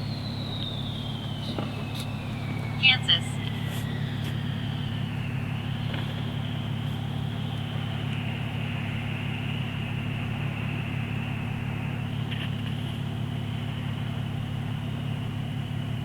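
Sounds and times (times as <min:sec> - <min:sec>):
car cabin hum: 0:00.0 - 0:16.0.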